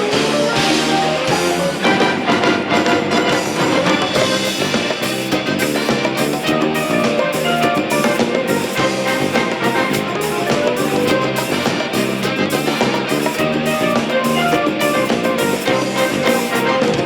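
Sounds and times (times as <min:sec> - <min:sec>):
band music: 0:00.0 - 0:17.0
drum kit beat: 0:00.0 - 0:17.0
guitar playing: 0:00.0 - 0:17.0.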